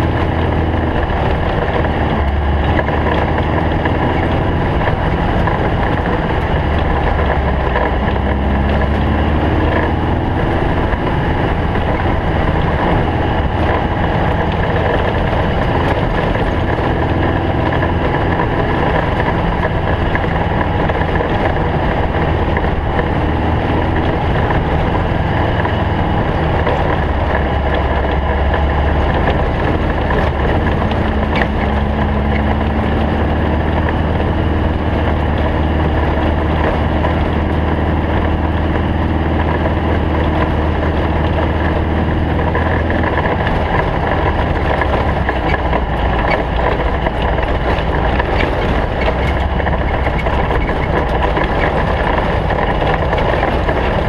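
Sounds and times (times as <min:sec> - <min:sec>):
race car engine drone: 0:00.0 - 0:54.0.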